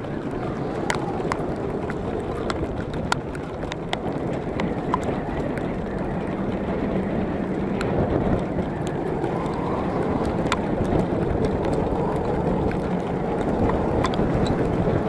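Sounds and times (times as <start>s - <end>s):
sharp ticks and clicks: 0.0s - 15.0s
tyres on loose gravel: 0.0s - 15.0s
vehicle engine rumbling: 0.0s - 15.0s.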